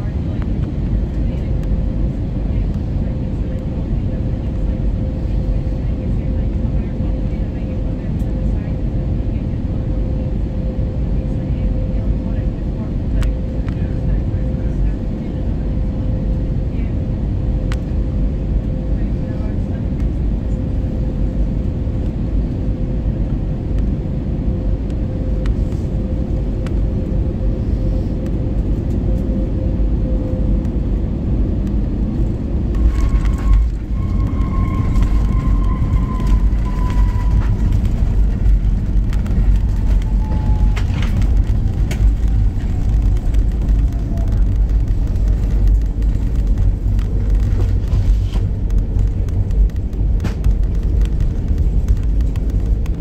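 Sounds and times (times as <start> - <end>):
engine and airflow rumble: 0.0 - 53.0
jet engine whine falling: 0.0 - 53.0
plane touchdown: 0.0 - 53.0.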